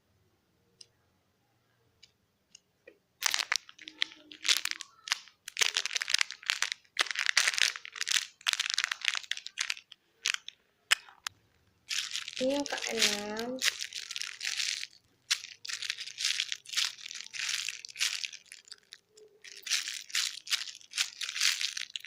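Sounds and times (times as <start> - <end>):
plastic packaging crinkling: 3.2 - 11.3, 11.9 - 22.0.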